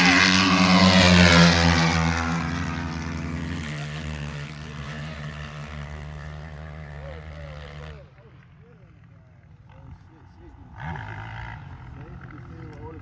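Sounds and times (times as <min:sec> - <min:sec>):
dirt bike engines at hard throttle: 0:00.0 - 0:13.0.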